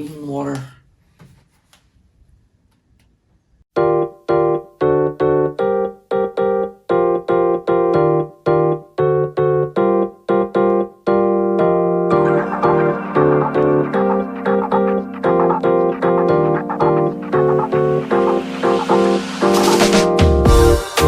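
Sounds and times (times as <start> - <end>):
electric piano music: 3.7 - 21.0.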